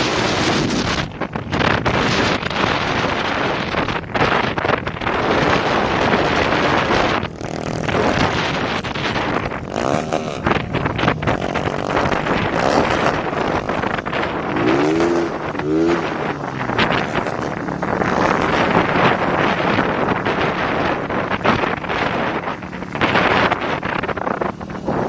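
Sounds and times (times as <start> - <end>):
motorcycle exhaust revving: 0.0 - 25.0
wind buffeting microphone: 0.0 - 25.0.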